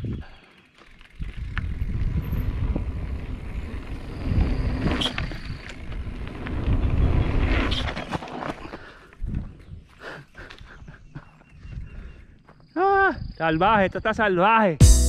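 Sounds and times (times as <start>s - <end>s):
wind rumbling on microphone: 0.0s - 0.4s, 1.1s - 8.1s, 9.2s - 14.2s
bike tyres running over dirt: 0.0s - 12.8s.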